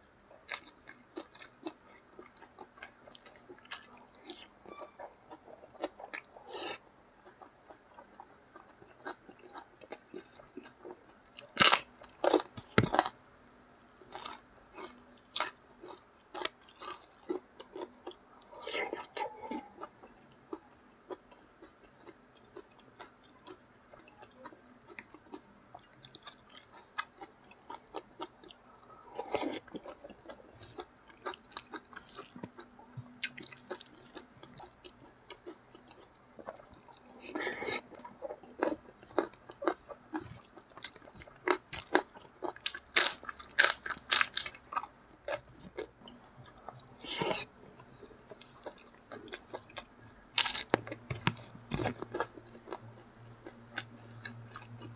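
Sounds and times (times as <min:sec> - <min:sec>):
person chewing and crunching food: 0:00.4 - 0:13.2, 0:14.0 - 0:54.9.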